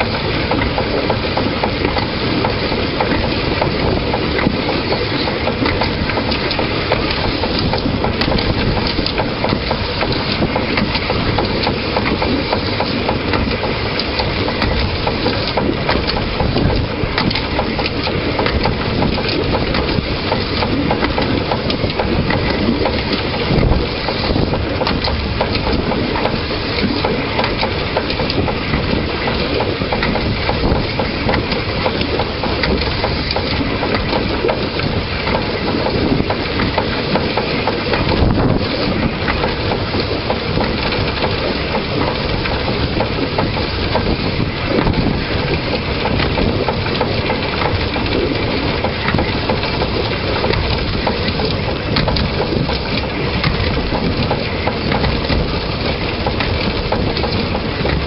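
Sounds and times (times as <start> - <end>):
train rumbling and rattling: 0.0 - 58.0.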